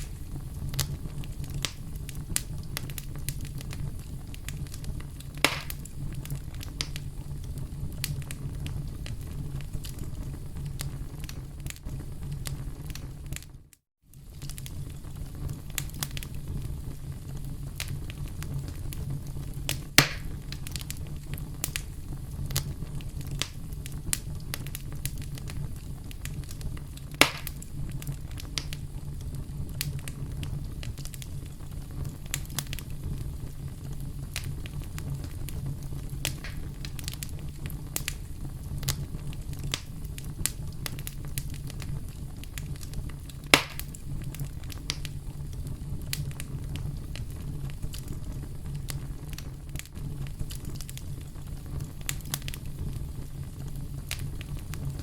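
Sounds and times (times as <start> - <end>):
campfire crackling and popping: 0.0 - 55.0
low rumble of flames: 0.0 - 55.0.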